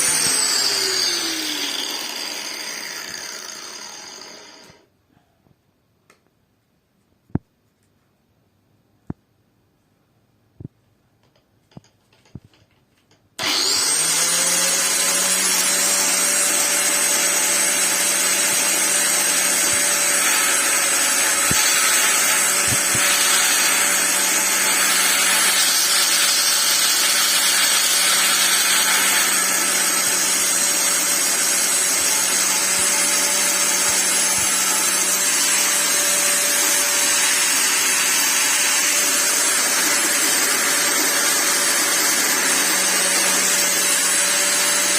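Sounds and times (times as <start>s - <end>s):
angle grinder whining: 0.0s - 4.9s, 13.4s - 44.9s.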